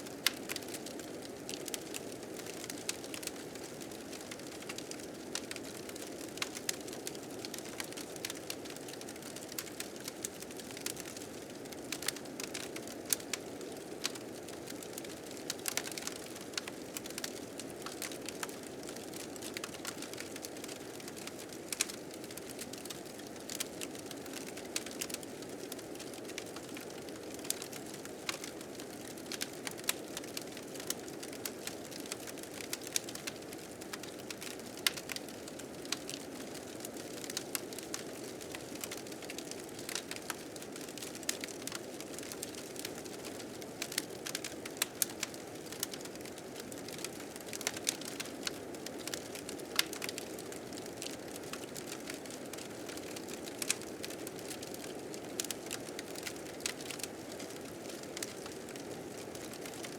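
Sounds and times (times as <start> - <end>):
fire crackling and popping: 0.1 - 59.9.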